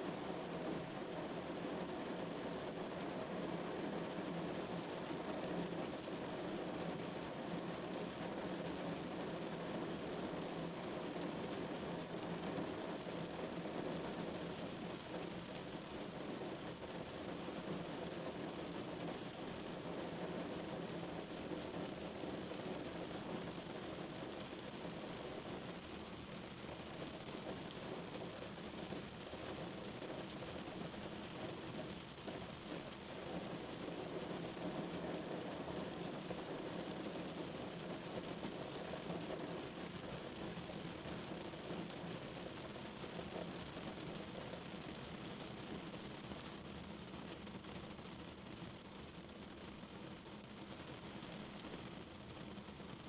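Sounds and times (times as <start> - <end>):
rain falling on a car: 0.0 - 53.0.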